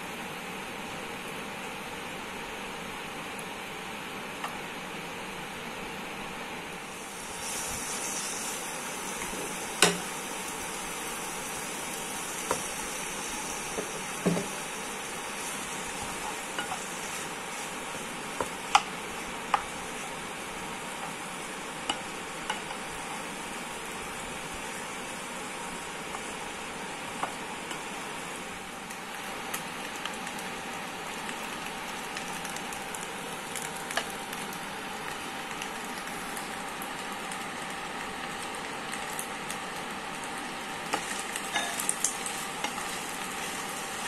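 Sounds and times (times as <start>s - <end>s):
vegetables sizzling in a pan: 6.7s - 44.0s.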